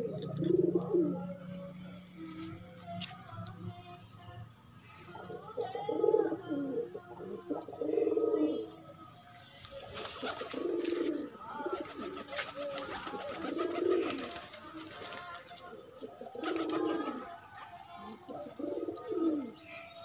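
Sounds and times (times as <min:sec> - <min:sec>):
pigeons cooing: 0:00.0 - 0:02.0, 0:05.1 - 0:09.0, 0:09.7 - 0:20.0.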